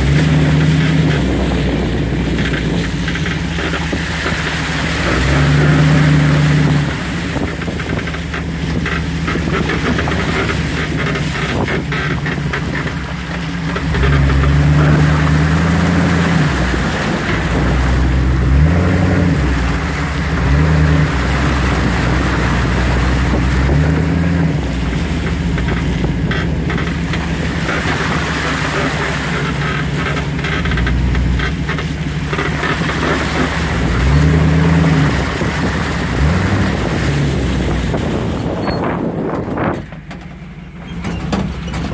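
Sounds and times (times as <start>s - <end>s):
off-road engine revving: 0.0s - 41.9s
tyre and wind noise: 0.0s - 41.9s.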